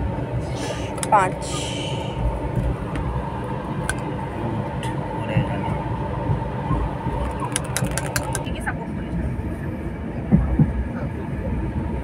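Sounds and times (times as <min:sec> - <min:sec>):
train rumbling inside carriage: 0:00.0 - 0:12.0.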